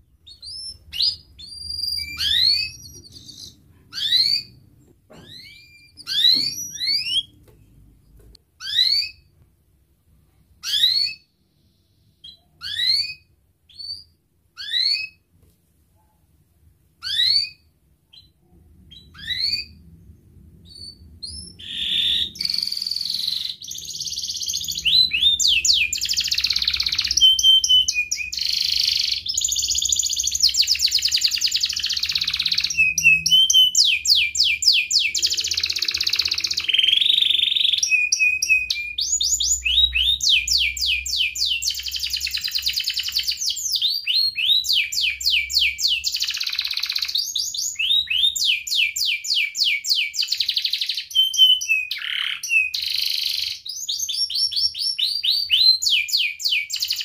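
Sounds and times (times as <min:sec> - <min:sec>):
canary singing trills: 0:00.0 - 0:07.4, 0:08.6 - 0:09.3, 0:10.6 - 0:15.2, 0:17.0 - 0:57.0.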